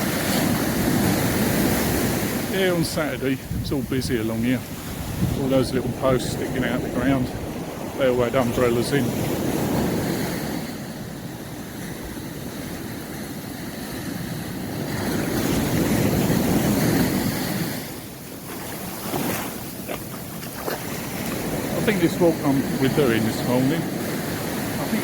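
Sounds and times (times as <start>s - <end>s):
sea waves breaking on beach: 0.0s - 25.0s
wind buffeting microphone: 0.0s - 25.0s.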